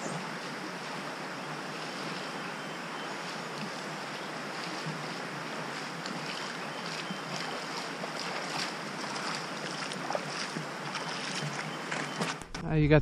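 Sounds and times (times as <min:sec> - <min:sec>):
creek water rushing over rocks: 0:00.0 - 0:12.4
wading steps splashing: 0:00.3 - 0:12.5.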